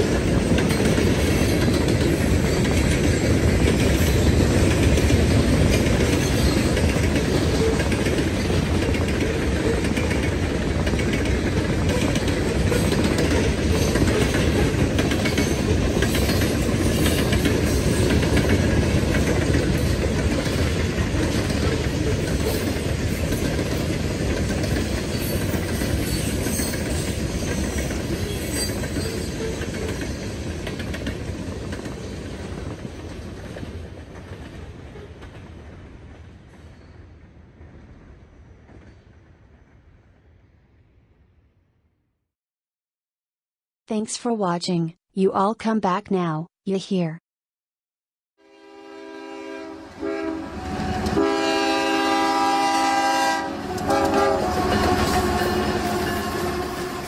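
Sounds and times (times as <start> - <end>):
freight train wheels on rails: 0.0 - 40.3, 49.5 - 57.0.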